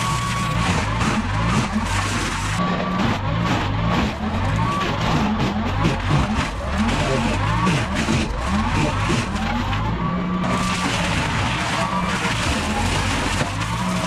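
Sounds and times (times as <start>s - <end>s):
branches snapping and crackling: 0.0s - 14.0s
tractor engine under load: 0.0s - 14.0s.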